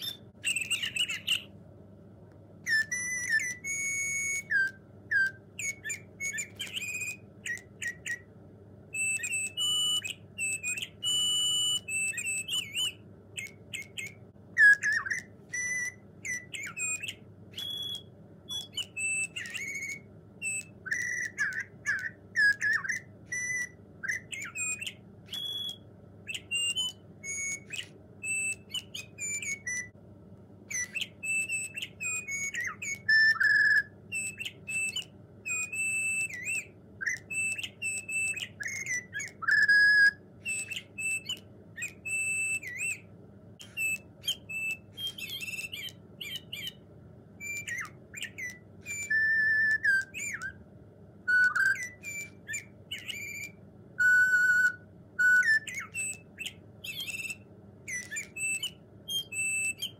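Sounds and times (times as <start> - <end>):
electronic bird toy chirping: 0.0 - 1.6, 2.6 - 30.0, 30.6 - 59.9.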